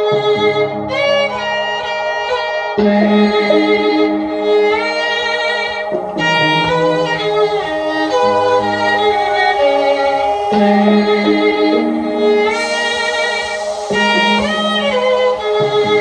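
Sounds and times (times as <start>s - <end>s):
violin music through a speaker: 0.0s - 16.0s.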